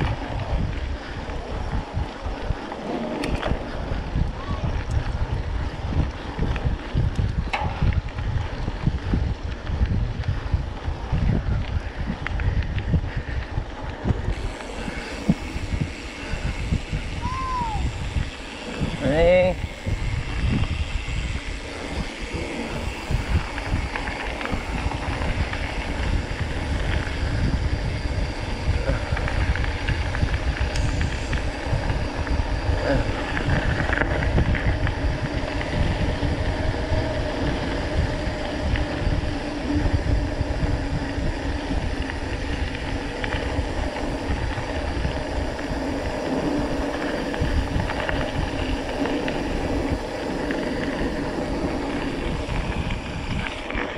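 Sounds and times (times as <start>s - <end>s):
bike rattling: 0.0s - 53.9s
wind buffeting microphone: 0.0s - 53.9s.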